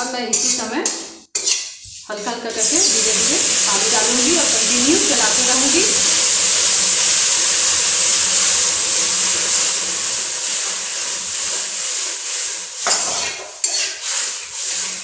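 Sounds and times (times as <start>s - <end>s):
water hissing into hot pan: 1.4s - 15.0s.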